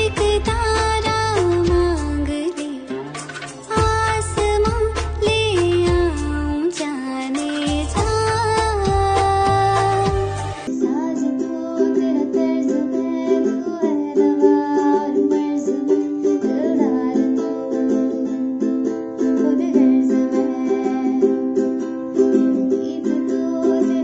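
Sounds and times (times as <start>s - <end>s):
woman singing softly: 0.0s - 3.0s, 3.7s - 18.0s, 19.3s - 21.5s, 22.5s - 24.0s
ukulele strummed chords: 0.0s - 24.0s.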